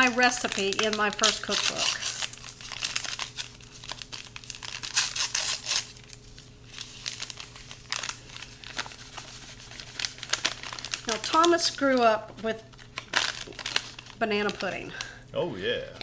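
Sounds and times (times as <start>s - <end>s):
paper pouch tearing and crinkling: 0.0s - 12.0s, 12.7s - 15.1s.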